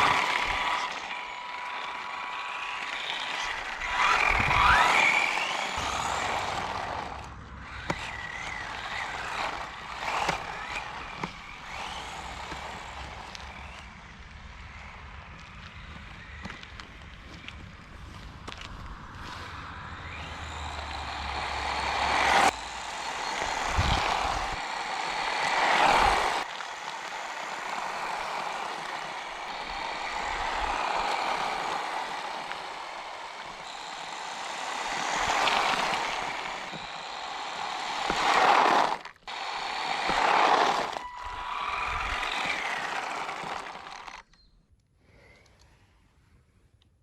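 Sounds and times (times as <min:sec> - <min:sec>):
toy truck electric motor whine: 0:00.0 - 0:17.6, 0:18.4 - 0:44.3
tyre noise: 0:00.0 - 0:44.2.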